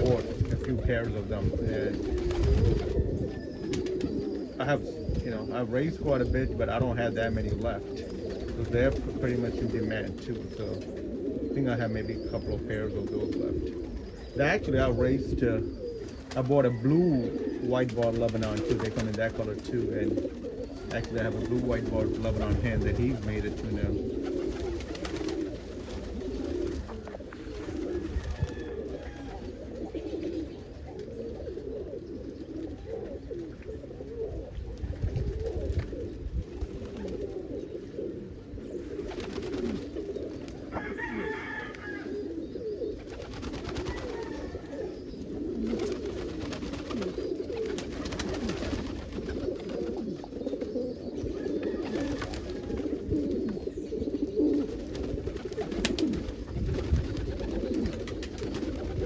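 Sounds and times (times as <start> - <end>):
pigeons cooing: 0.0 - 59.0.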